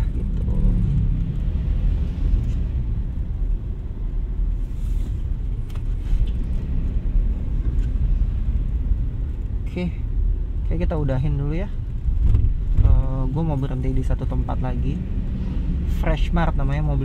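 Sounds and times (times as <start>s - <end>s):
car cabin engine and road rumble: 0.0s - 17.0s.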